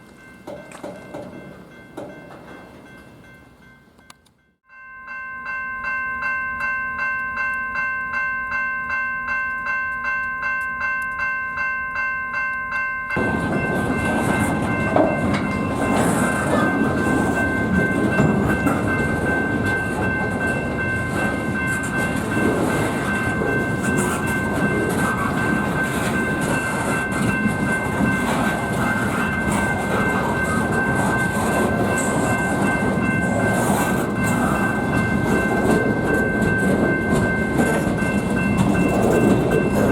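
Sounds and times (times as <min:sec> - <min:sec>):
freight train wheels on rails: 0:00.0 - 0:04.7, 0:06.2 - 0:39.9
railroad crossing bell ringing: 0:00.0 - 0:39.9.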